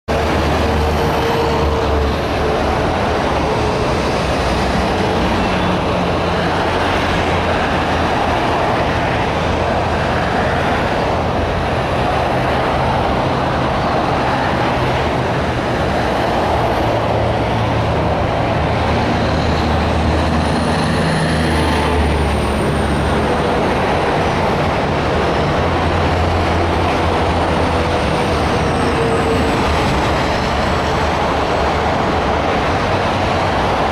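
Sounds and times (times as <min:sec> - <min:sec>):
freeway traffic: 0:00.0 - 0:33.9.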